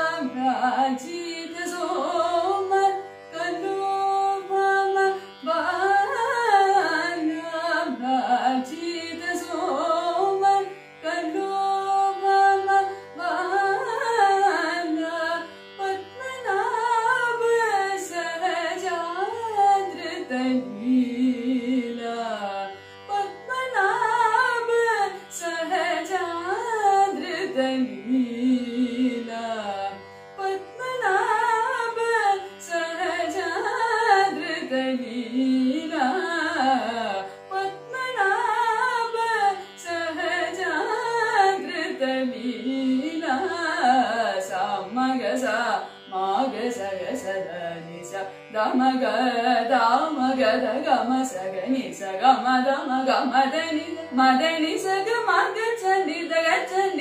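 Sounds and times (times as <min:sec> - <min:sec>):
woman singing ornamented melody: 0:00.0 - 0:57.0.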